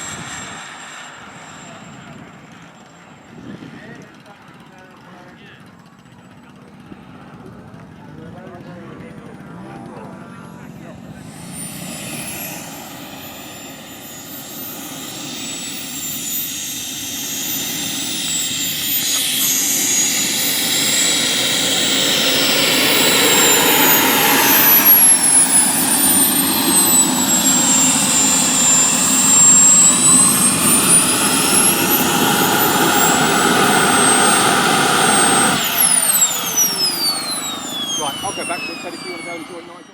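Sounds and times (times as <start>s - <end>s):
model jet turbine whine: 0.0s - 39.9s.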